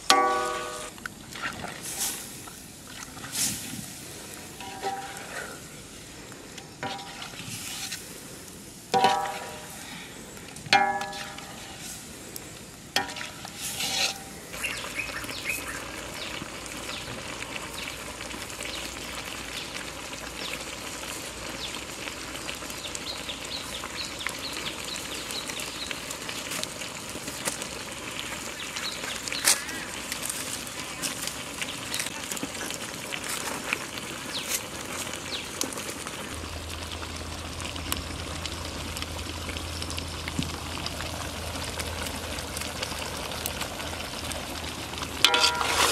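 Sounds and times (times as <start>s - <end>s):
fish frying sizzle and crackle: 0.0s - 45.9s.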